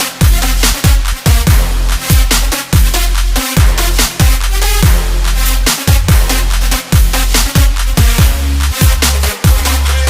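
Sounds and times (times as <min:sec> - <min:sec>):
electronic dance music: 0:00.0 - 0:10.0
deep kick drum: 0:00.2 - 0:03.0, 0:03.6 - 0:05.2, 0:05.9 - 0:09.7.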